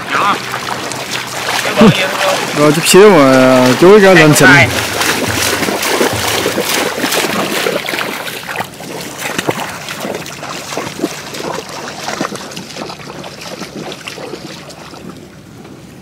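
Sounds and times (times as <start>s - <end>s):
floodwater splashing: 0.0s - 16.0s.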